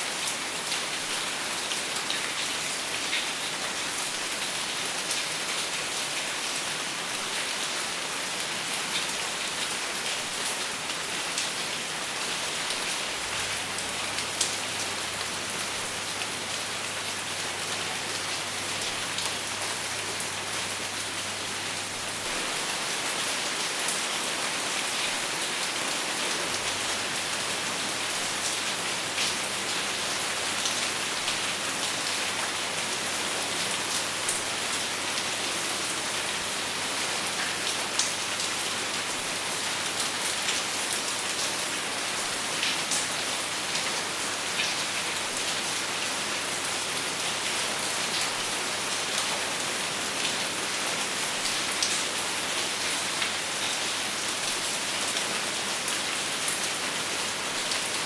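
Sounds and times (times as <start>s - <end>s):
steady rain on a surface: 0.0s - 58.0s.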